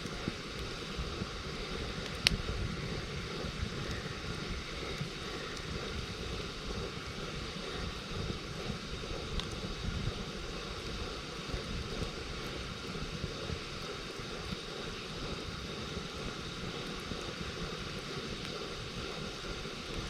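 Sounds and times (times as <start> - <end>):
campfire burning: 0.0 - 20.0
fire crackles: 0.0 - 20.0.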